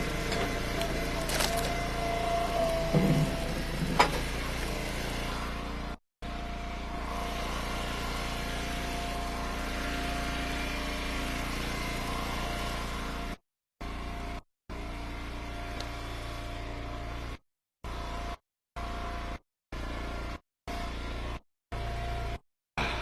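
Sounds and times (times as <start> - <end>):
log splitter engine running: 0.0 - 23.0.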